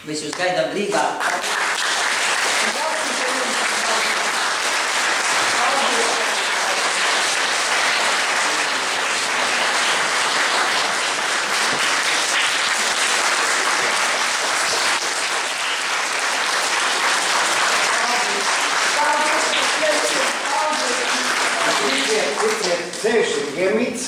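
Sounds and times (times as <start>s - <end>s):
audience applauding: 1.2s - 23.4s.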